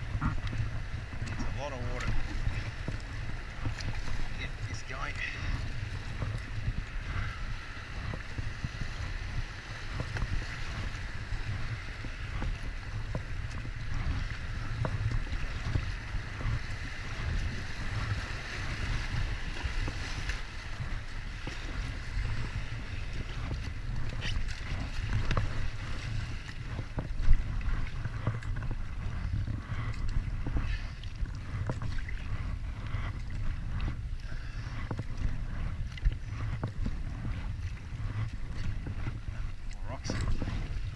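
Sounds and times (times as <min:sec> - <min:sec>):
river water rushing and splashing: 0:00.0 - 0:29.1, 0:36.3 - 0:40.9
paddle splashes: 0:00.0 - 0:40.9
wind rumble on microphone: 0:00.0 - 0:40.9.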